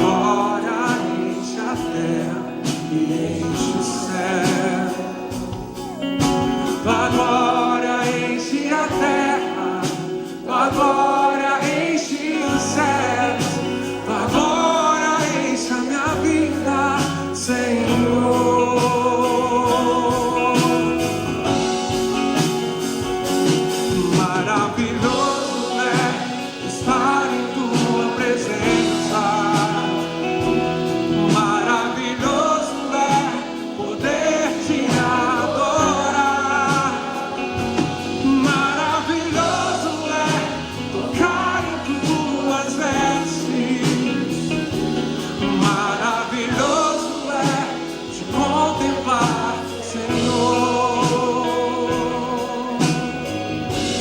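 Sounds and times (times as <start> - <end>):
gospel band with drum beat: 0.0 - 54.0
sung lead line: 0.0 - 54.0.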